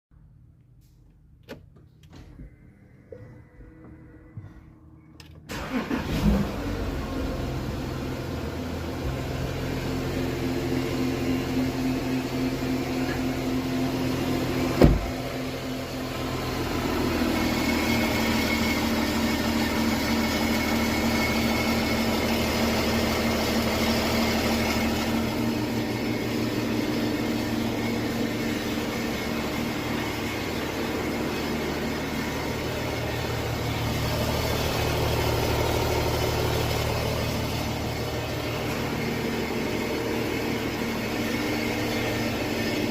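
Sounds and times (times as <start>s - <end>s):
diesel engine running: 2.4s - 42.9s.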